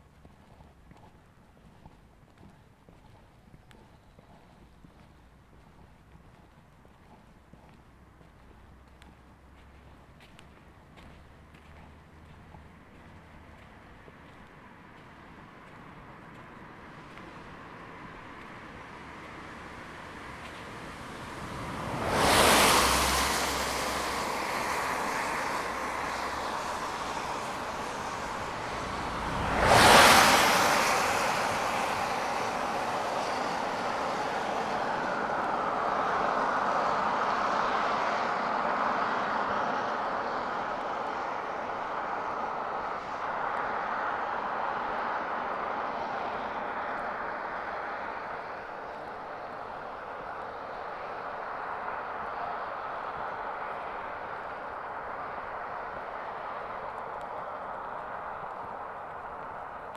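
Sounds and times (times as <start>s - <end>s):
cars passing close by: 0.0s - 59.9s
steady vehicle noise: 0.0s - 59.9s.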